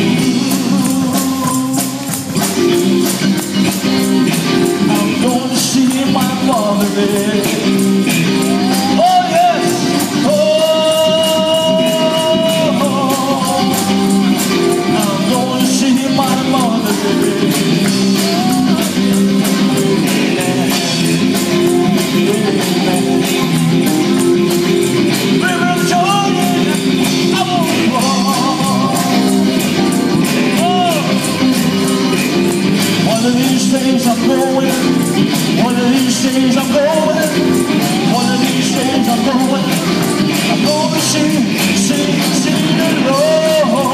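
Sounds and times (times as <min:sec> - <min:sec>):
man singing into a microphone: 0:00.0 - 0:02.5, 0:04.2 - 0:24.3, 0:25.1 - 0:43.9
drums with steady beat: 0:00.0 - 0:43.9
electric guitars: 0:00.0 - 0:43.9.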